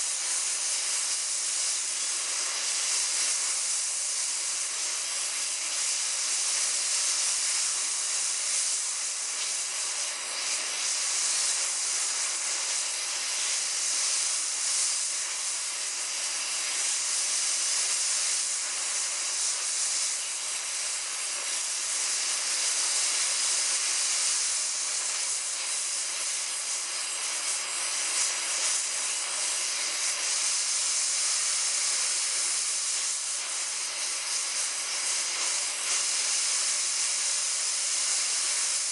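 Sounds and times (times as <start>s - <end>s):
torch flame hissing: 0.0s - 38.9s.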